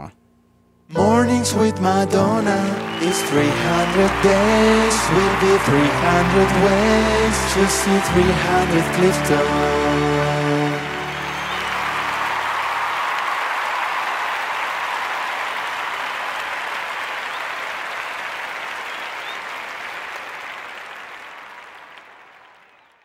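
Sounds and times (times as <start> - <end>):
crowd applause: 2.1 - 23.0.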